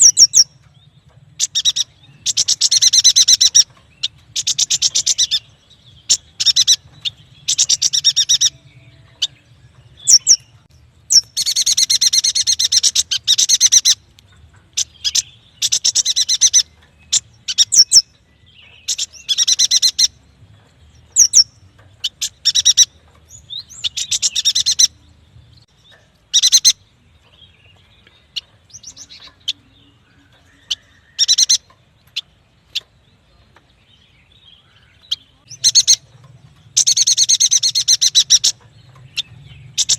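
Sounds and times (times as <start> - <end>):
bird chattering trills: 0.0 - 20.2, 20.9 - 25.0, 25.9 - 26.9, 28.2 - 33.0, 34.5 - 39.9.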